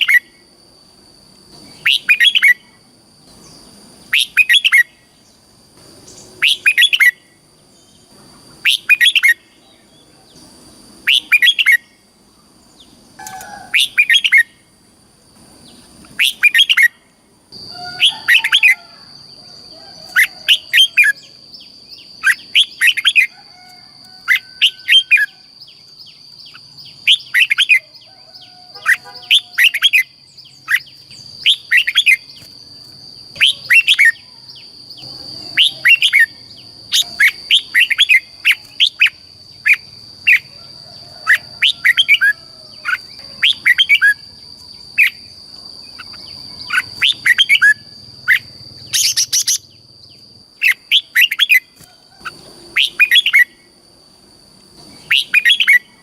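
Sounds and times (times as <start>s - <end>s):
bulbul singing: 1.5s - 14.7s, 15.4s - 53.7s, 54.8s - 56.0s.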